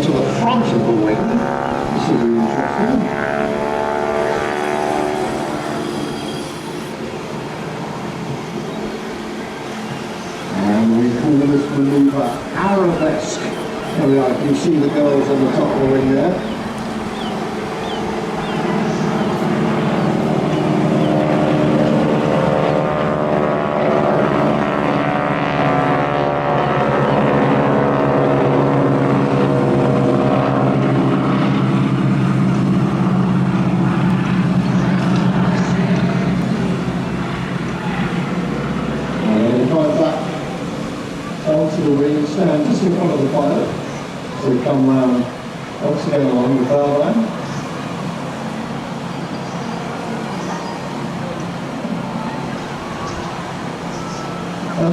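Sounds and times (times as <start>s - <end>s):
biplane engine and propeller drone: 0.0s - 54.9s.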